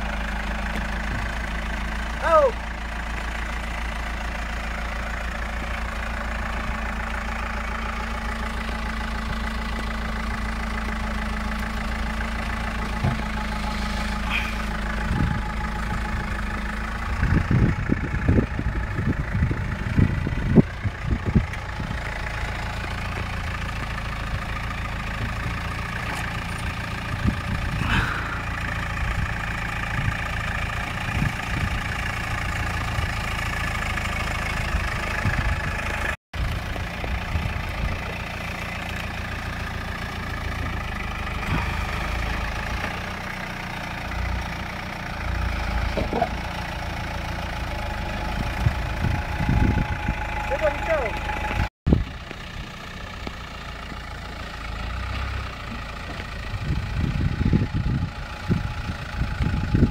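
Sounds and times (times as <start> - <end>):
truck engine running at low revs: 0.0 - 59.9.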